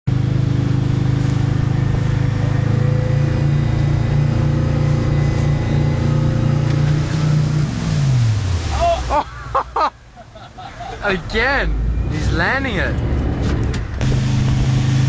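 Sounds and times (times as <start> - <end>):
motorboat engine running: 0.1 - 10.2, 10.8 - 15.0.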